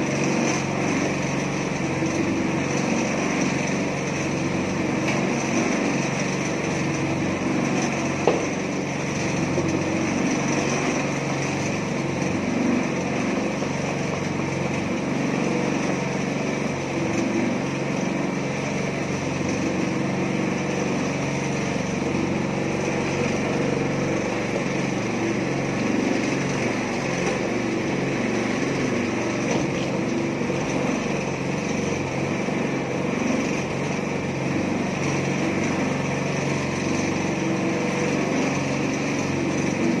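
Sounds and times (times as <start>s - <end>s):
small petrol engine running: 0.0s - 40.0s.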